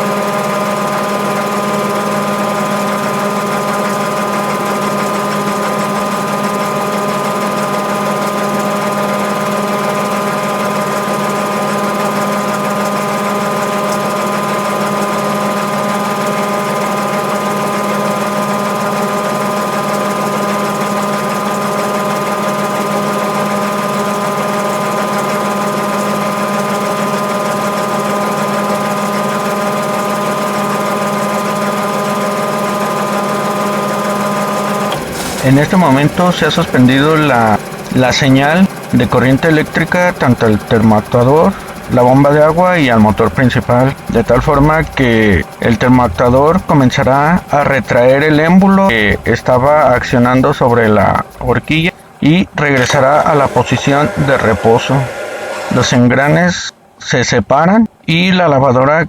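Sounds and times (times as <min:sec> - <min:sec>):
washing machine spin cycle hum: 0:00.0 - 0:58.6.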